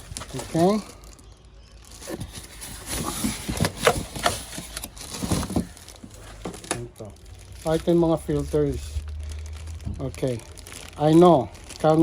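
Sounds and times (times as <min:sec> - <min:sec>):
hands handling parts and packaging: 0:00.0 - 0:01.3, 0:01.9 - 0:12.0.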